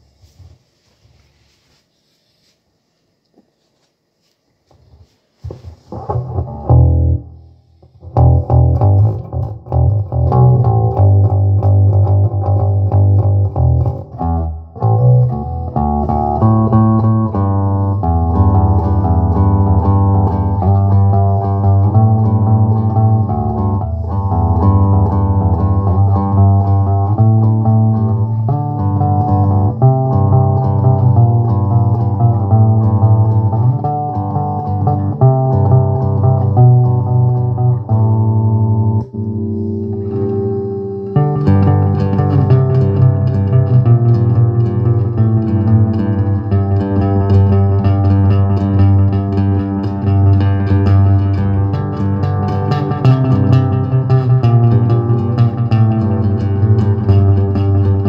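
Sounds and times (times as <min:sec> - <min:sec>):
electric bass guitar plucked: 0:05.5 - 0:58.0.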